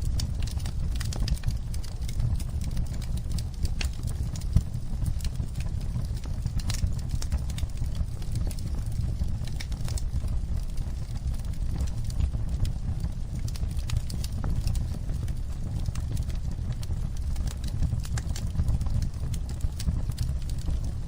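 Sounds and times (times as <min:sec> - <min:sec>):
steady low rumble: 0:00.0 - 0:21.0
wood fire crackling and popping: 0:00.0 - 0:21.0.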